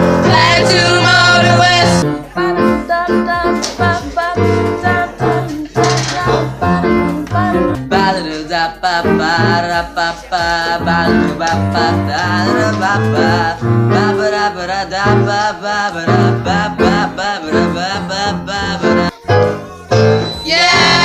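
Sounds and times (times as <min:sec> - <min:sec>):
song with singing and instruments: 0:00.0 - 0:21.0.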